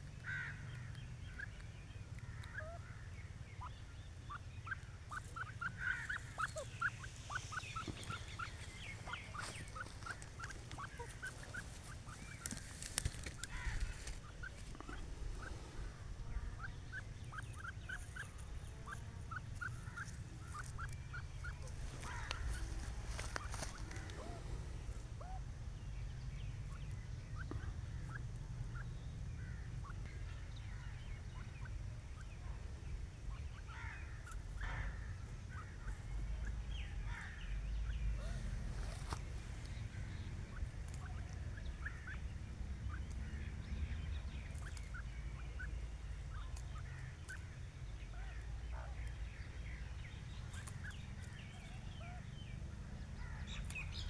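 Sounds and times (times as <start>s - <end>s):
bird chirping calls: 0.0s - 54.0s
steady low rumble: 0.0s - 54.0s.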